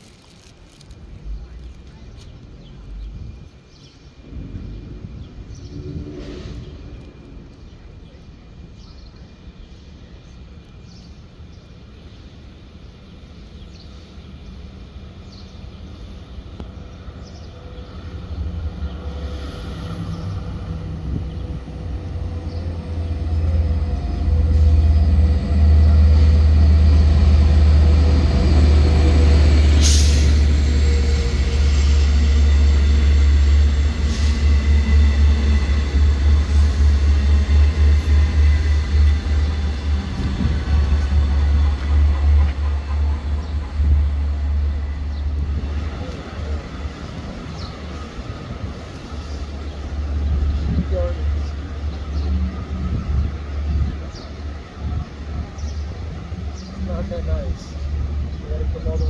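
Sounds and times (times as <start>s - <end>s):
locomotive engine and wheel rumble: 0.0s - 59.0s
train cars rolling by pulsing: 0.0s - 59.0s.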